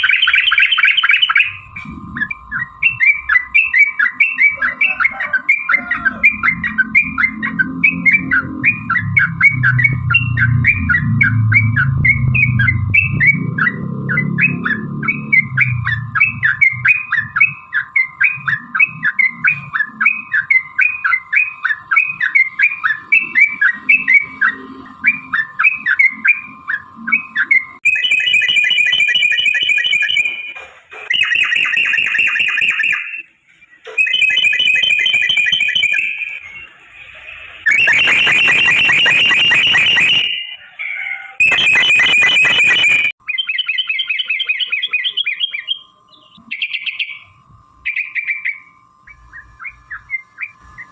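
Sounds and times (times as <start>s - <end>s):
bird whistled repeated notes: 0.0s - 50.9s
steady background tone: 0.0s - 50.9s.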